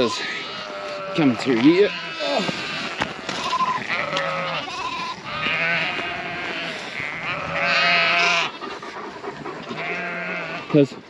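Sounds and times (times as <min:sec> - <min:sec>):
sheep bleating: 0:00.0 - 0:08.7, 0:09.7 - 0:10.8.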